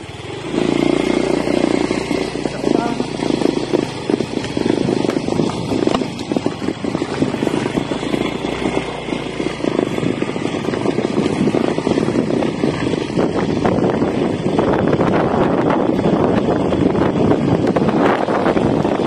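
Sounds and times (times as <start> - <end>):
motorcycle running: 0.0 - 19.0
wind rushing over microphone: 0.0 - 19.0.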